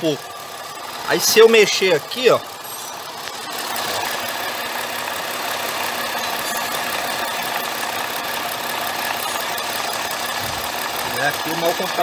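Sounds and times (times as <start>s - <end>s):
car engine idling: 0.0s - 12.0s
radiator cooling fan running: 0.0s - 12.0s.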